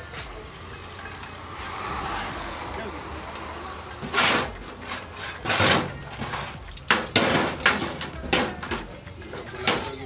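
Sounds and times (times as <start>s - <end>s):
knocks and clatters: 0.0s - 10.0s.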